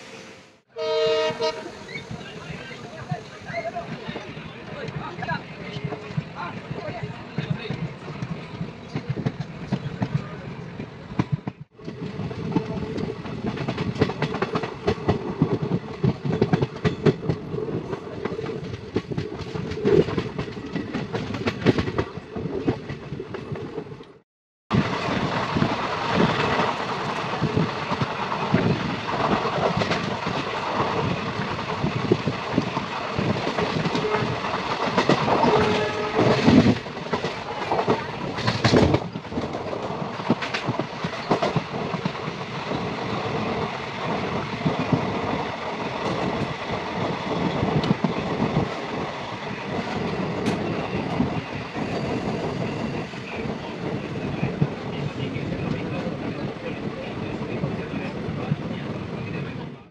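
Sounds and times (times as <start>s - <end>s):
train wheels clattering on rails: 4.0s - 23.9s, 24.7s - 59.4s.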